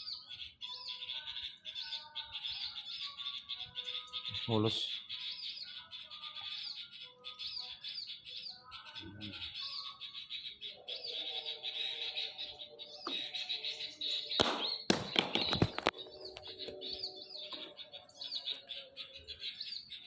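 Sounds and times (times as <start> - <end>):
lower whistled bird song: 0.0 - 20.0
small birds chirping: 0.0 - 20.0.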